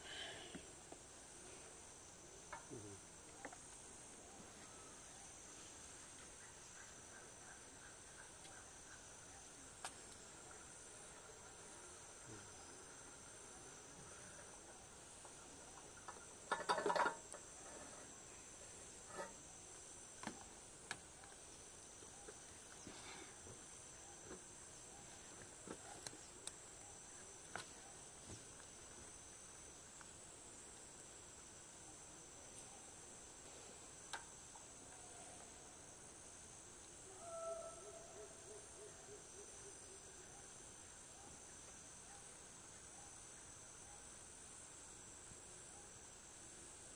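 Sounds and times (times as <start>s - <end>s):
high-pitched insect chorus: 0.0s - 46.9s.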